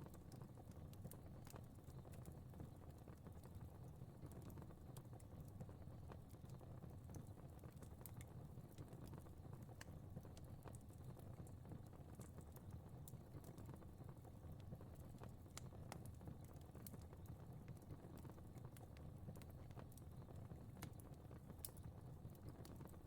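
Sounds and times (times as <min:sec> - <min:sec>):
fire crackling: 0:00.1 - 0:23.0.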